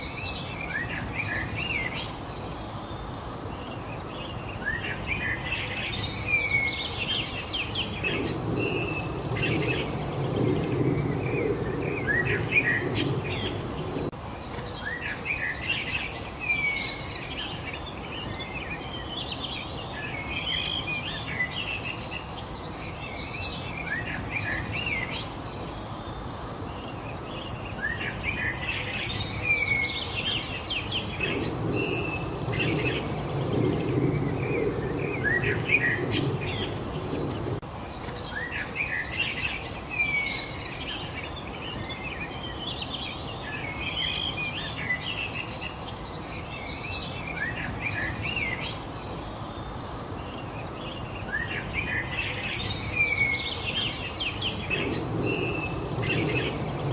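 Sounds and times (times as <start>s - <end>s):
low background rush: 0.0s - 56.9s
songbirds chirping and trilling: 0.0s - 56.9s.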